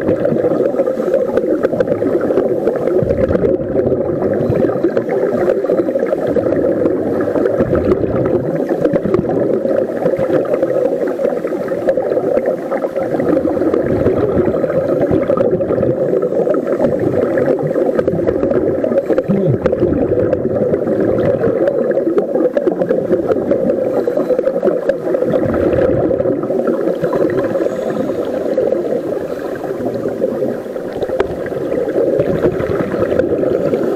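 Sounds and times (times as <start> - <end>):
muffled underwater drone: 0.0 - 33.9.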